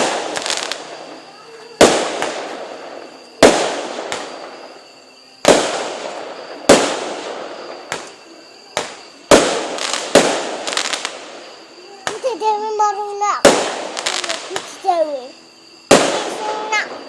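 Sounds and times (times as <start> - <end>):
fireworks bangs with echo: 0.0 - 17.0.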